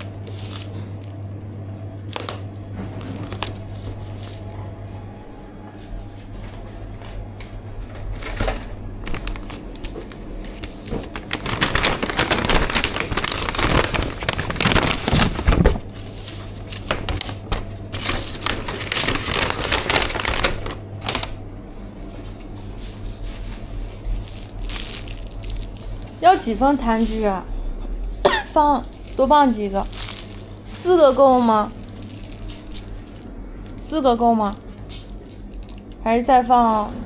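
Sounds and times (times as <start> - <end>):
plastic packaging crackling: 0.0 - 4.5, 8.2 - 21.4, 22.8 - 26.8, 28.5 - 37.0.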